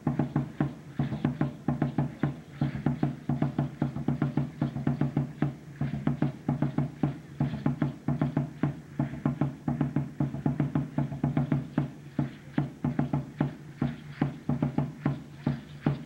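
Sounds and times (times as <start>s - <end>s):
large drums beaten fast: 0.0s - 16.0s.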